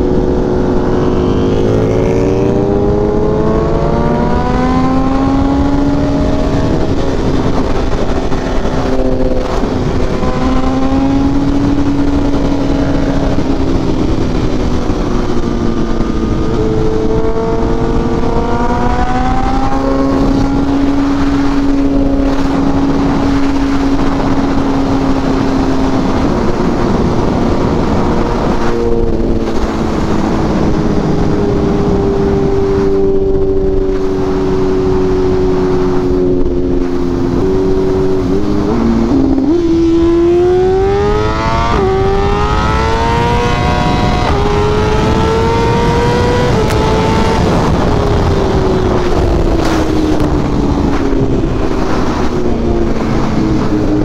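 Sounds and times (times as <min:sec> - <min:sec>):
motorcycle engine running: 0:00.0 - 0:54.0
other engines passing: 0:00.0 - 0:54.0
wind rush: 0:00.0 - 0:54.0.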